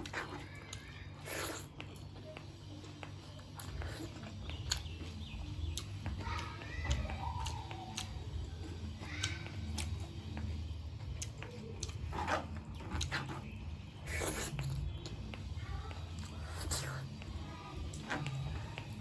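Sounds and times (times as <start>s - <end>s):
chewing and lip smacking: 0.0s - 19.0s.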